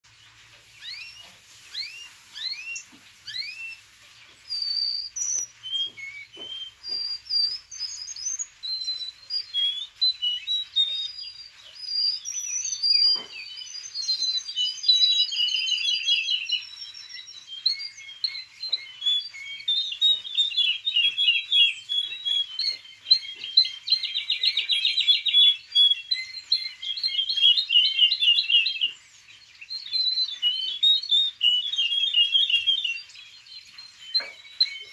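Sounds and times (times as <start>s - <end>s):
background birds singing: 0.0s - 34.9s
canary singing trills: 0.1s - 34.9s.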